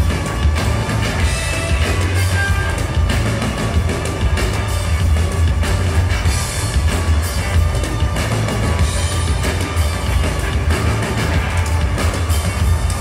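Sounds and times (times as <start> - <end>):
heavy bass line: 0.0 - 13.0
live rock band: 0.0 - 13.0.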